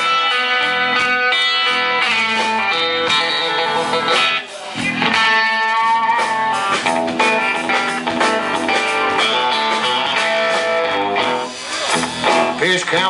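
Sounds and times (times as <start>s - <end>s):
country-rock band with electric guitar: 0.0s - 13.0s.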